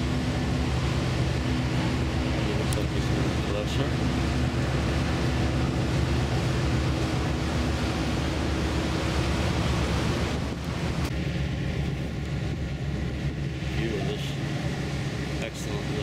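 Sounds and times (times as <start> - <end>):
sea and wake noise: 0.0 - 16.0
ship engine hum: 0.0 - 16.0
wind on microphone: 0.0 - 16.0.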